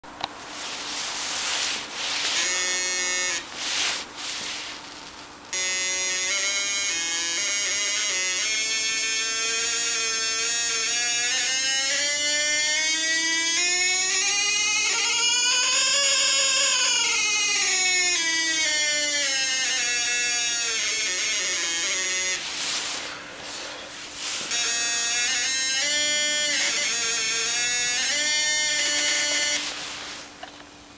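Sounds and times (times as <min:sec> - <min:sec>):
buzzy square-wave tone notes: 0:00.5 - 0:30.9.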